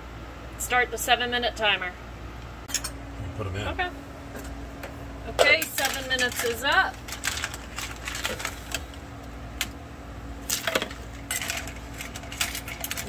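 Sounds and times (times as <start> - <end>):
low hum: 1.8 - 13.0.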